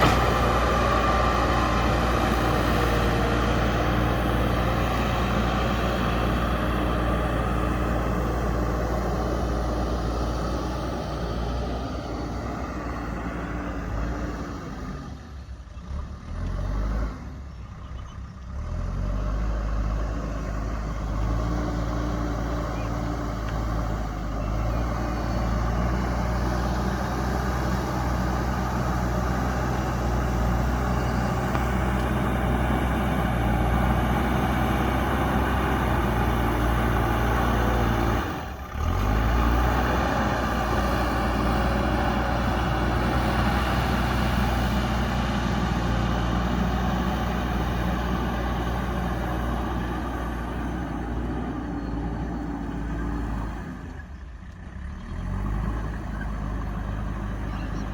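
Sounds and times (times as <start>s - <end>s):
diesel engine running under load: 0.0s - 57.9s.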